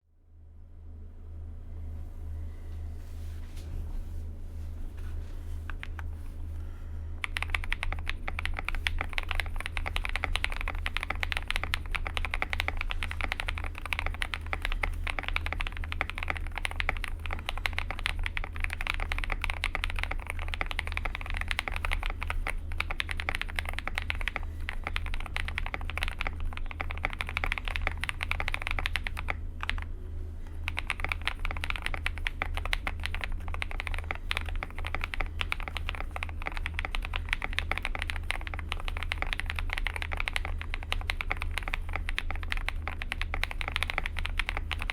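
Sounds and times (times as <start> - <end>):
steady low hum: 0.0 - 44.9
typing on mechanical keyboard: 7.2 - 29.9, 30.6 - 44.9.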